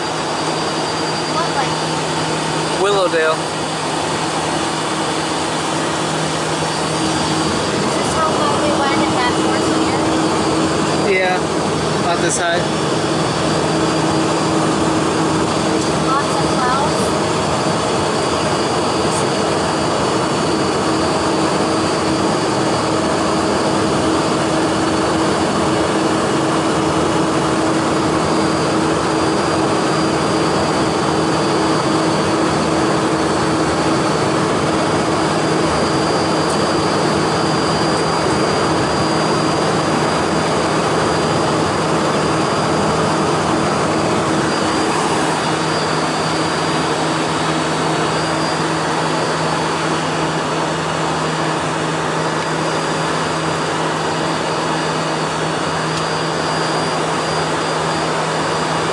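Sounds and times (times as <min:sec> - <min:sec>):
jet cabin airflow and engine drone: 0:00.0 - 0:58.9
steady hums: 0:00.0 - 0:58.9.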